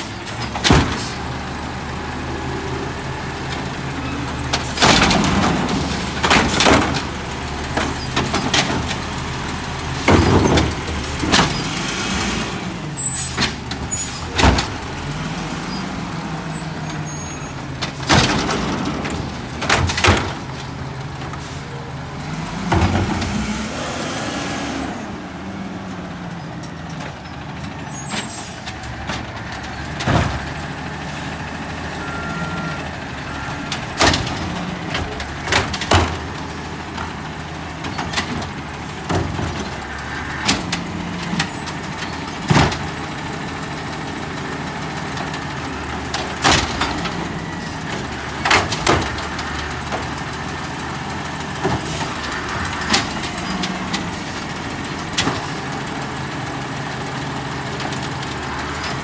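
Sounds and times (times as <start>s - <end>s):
garbage truck engine hum: 0.0s - 59.0s.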